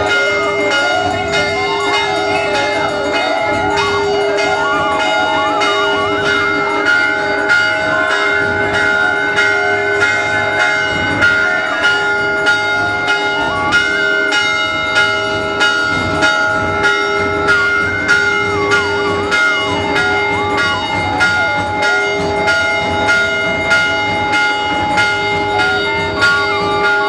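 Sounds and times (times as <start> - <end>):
temple bells ringing: 0.0 - 27.0
wavering held tone: 0.0 - 27.0.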